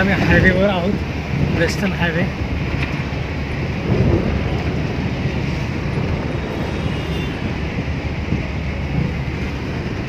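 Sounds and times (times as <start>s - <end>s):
road and engine noise in car: 0.0s - 10.0s.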